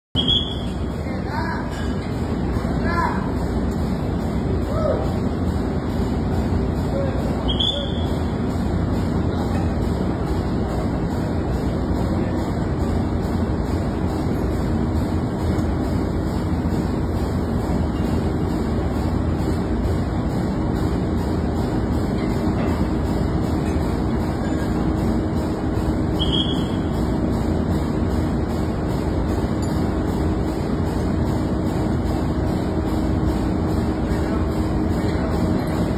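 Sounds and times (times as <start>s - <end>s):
engine room machinery din: 0.1s - 35.9s.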